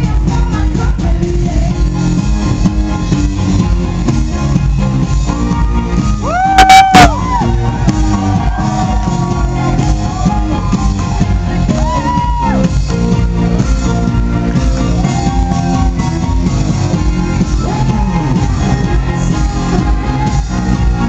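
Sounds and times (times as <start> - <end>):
live electropop band: 0.0 - 21.0.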